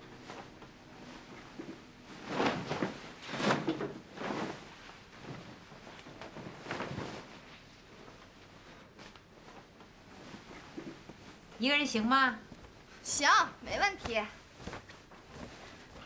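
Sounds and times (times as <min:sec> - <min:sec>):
scraping rustling noises: 0:00.0 - 0:16.0.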